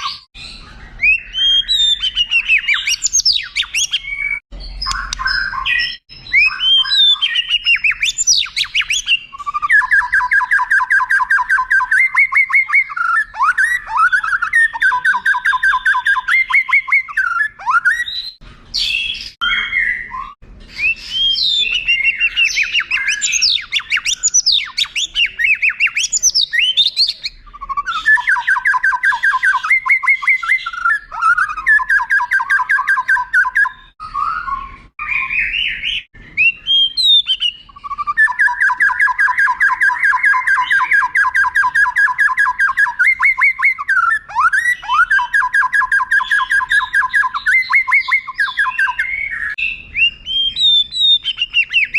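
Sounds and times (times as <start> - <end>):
bird singing trills and whistles: 0.0 - 51.9.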